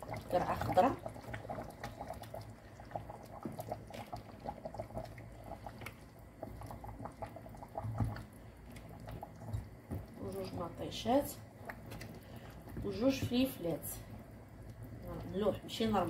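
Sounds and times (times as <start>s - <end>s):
broth simmering with bubbling pops: 0.0s - 16.0s.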